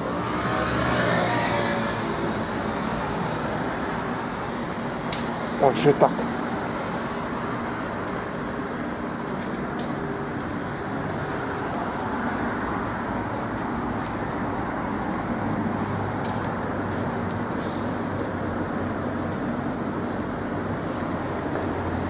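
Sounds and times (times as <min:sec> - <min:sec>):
city traffic noise: 0:00.0 - 0:22.0.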